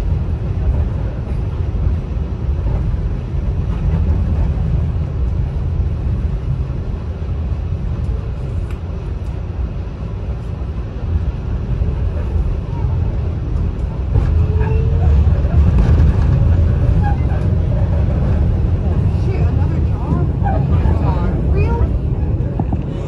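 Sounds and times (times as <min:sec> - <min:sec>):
subway train wheels rumbling: 0:00.0 - 0:23.0.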